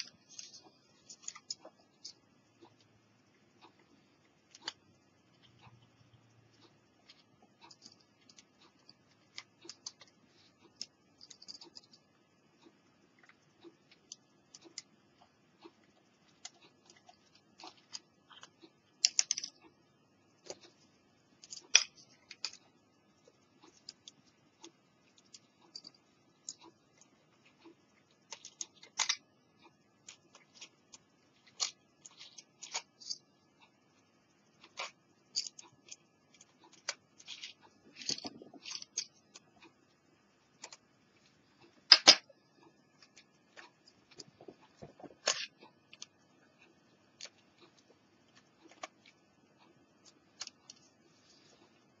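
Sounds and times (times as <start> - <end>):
small clicks and ticks: 0.0 - 52.0.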